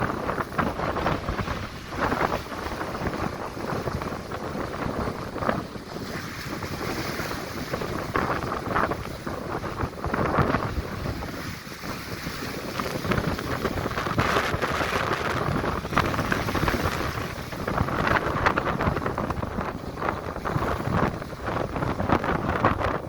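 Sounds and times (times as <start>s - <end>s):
gusty wind buffeting microphone: 0.0s - 23.0s
waves rushing on sea: 0.0s - 23.0s.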